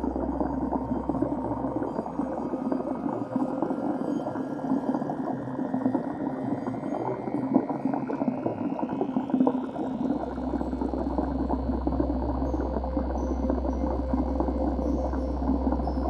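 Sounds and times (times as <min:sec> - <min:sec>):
water bubbling and churning: 0:00.0 - 0:16.0.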